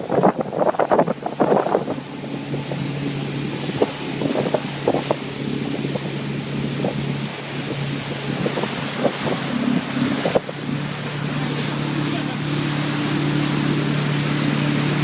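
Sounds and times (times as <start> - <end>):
motorboat engine humming: 0.0 - 15.0
rushing water: 0.0 - 15.0
wind noise on microphone: 0.0 - 15.0.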